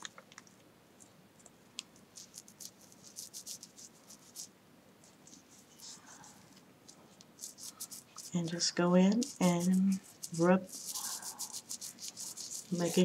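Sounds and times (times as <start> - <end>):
fingers scratching through wig hair: 1.9 - 13.0.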